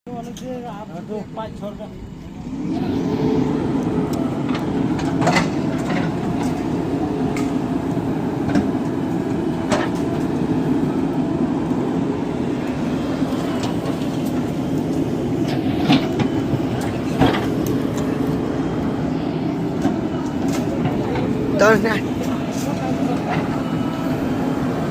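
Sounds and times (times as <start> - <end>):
heavy diesel engine running: 0.1 - 24.9.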